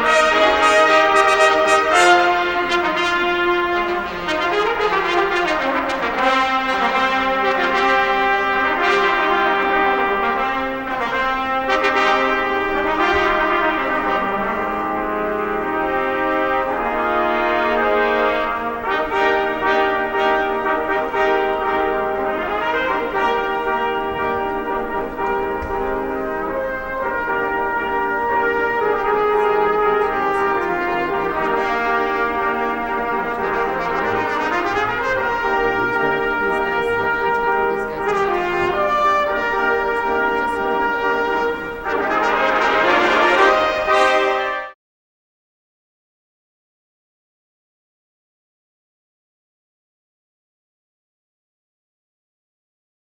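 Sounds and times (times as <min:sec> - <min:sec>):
slow brass-like chords: 0:00.0 - 0:44.8.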